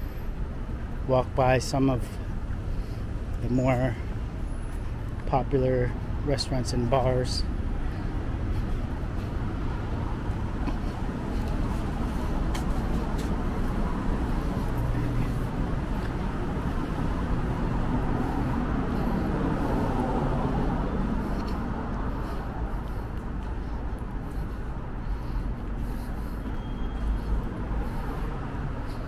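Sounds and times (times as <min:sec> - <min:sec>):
cars rumbling on road: 0:00.0 - 0:29.0.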